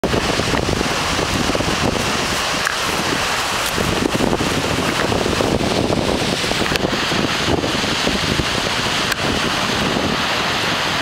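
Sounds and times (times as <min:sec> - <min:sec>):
waterfall pouring: 0:00.0 - 0:11.0
wind buffeting microphone: 0:00.0 - 0:11.0.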